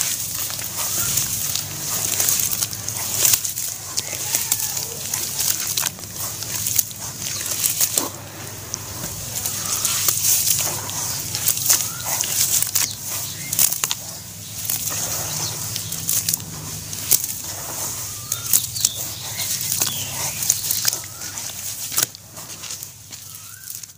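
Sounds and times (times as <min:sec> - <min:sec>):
hands squelching wet paste: 0:00.0 - 0:23.9
sharp crackles and clicks: 0:00.0 - 0:23.9.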